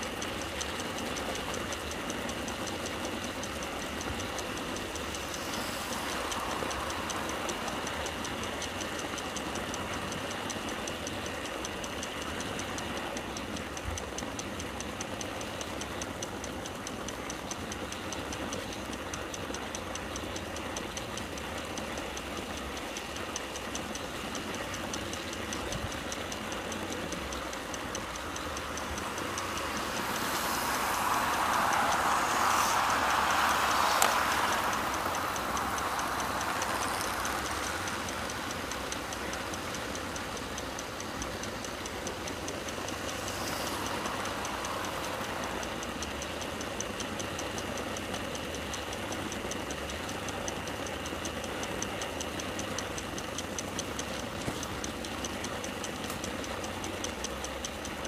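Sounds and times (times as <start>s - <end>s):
model train passing: 0.0s - 58.0s
wheels clicking over rail joints: 0.0s - 58.0s.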